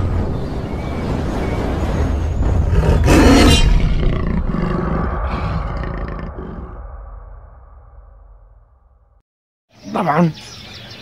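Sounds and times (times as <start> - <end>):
deep rumbling boom: 0.0 - 9.2.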